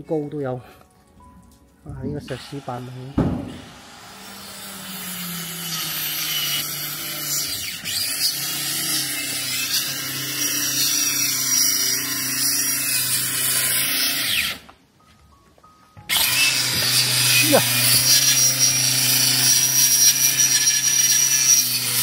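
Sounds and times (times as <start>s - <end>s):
power tool hissing and humming: 2.2s - 14.6s, 16.1s - 22.0s.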